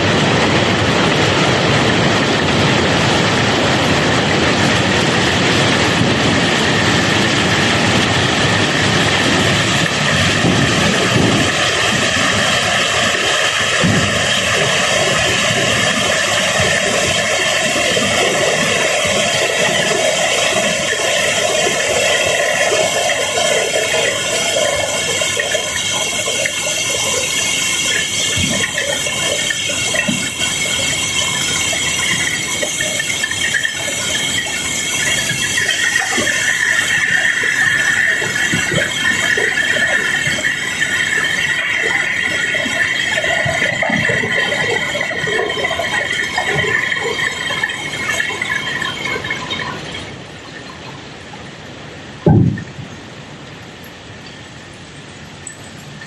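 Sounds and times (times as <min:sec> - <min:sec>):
cobblestones pouring and rattling: 0:00.0 - 0:51.2
machinery whine: 0:00.0 - 0:56.0.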